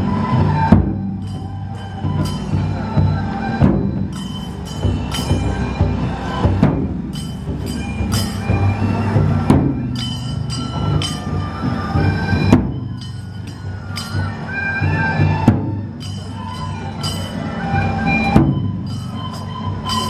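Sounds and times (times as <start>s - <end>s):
large drums beaten in rhythm: 0.0s - 20.0s
bright metallic ringing tones: 1.2s - 20.0s.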